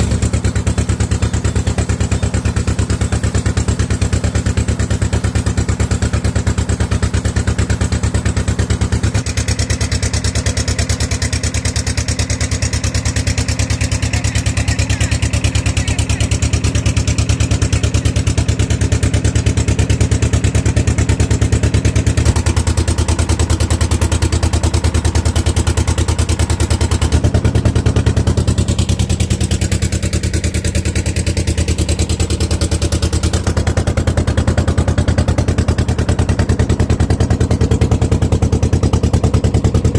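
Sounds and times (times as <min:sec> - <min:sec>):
motorboat engine chugging: 0:00.0 - 0:39.9.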